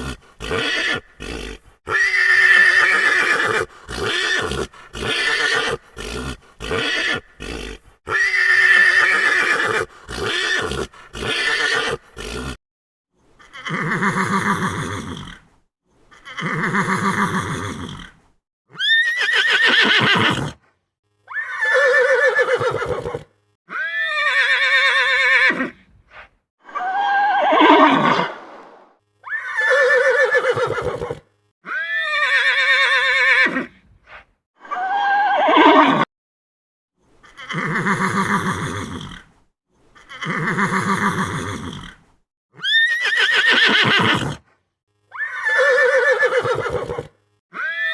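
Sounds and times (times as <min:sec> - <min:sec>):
horse neighing: 0:00.0 - 0:12.6, 0:13.4 - 0:15.4, 0:16.2 - 0:20.6, 0:21.3 - 0:25.8, 0:26.8 - 0:33.7, 0:34.7 - 0:36.1, 0:37.3 - 0:39.3, 0:40.0 - 0:42.0, 0:42.6 - 0:44.4, 0:45.1 - 0:47.9.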